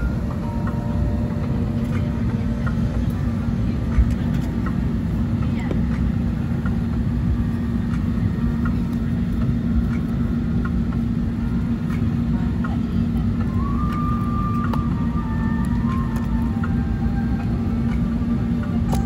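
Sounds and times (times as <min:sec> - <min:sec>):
air-conditioning rushing: 0:00.0 - 0:19.0
constant low hum: 0:00.0 - 0:19.0.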